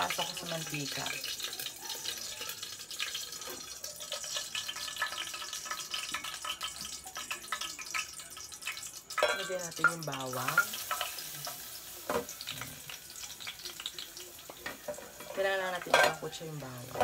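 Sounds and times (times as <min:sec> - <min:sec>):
oil sizzling and popping: 0:00.0 - 0:17.0.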